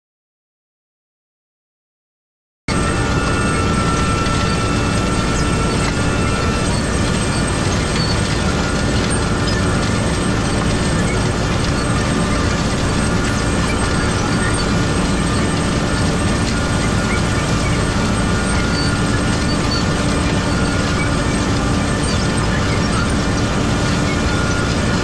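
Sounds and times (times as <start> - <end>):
tractor and planter running: 2.7 - 25.0.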